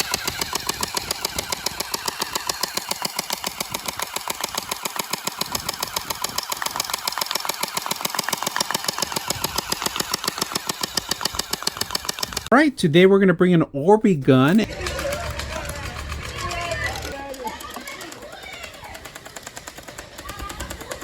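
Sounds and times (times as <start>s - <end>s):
toy blaster firing full auto: 0.0s - 12.5s, 14.6s - 21.0s.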